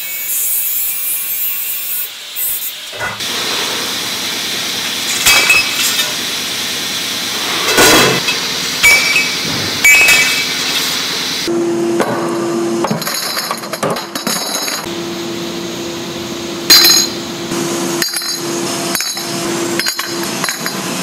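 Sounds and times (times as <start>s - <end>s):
workshop noise: 0.0s - 21.0s.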